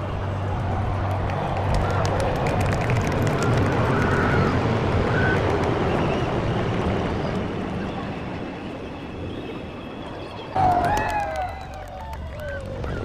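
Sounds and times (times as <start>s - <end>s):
jet aircraft passing overhead: 0.0s - 13.0s.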